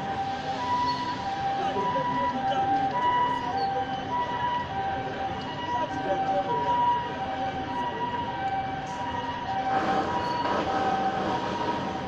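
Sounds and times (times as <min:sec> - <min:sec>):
street and crowd noise: 0:00.0 - 0:12.0
two-tone fire engine siren: 0:00.0 - 0:12.0.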